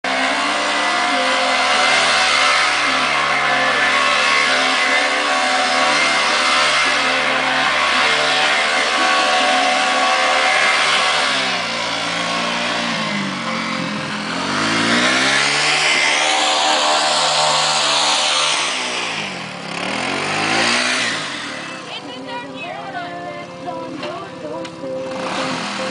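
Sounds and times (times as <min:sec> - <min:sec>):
atv engine revving: 0:00.0 - 0:25.9.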